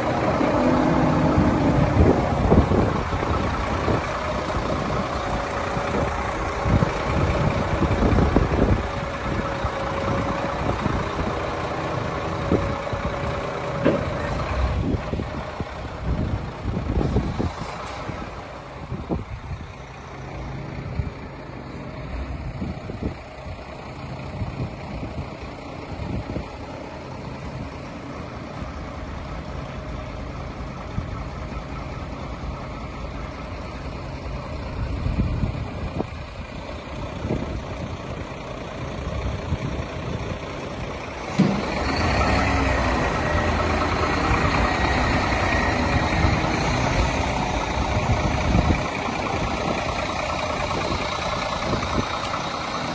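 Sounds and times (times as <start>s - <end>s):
engine knocks: 0.0s - 29.5s, 33.2s - 52.9s
diesel truck engine idling: 0.0s - 52.9s.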